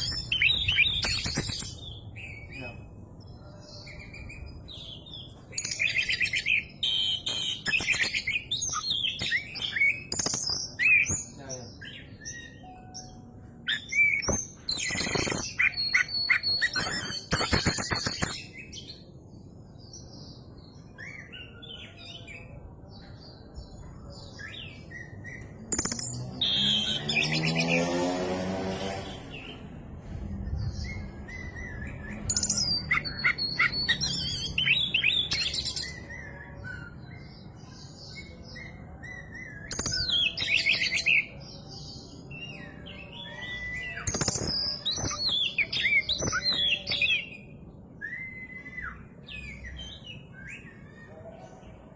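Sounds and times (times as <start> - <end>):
bird singing rapid high song: 0.0 - 51.9.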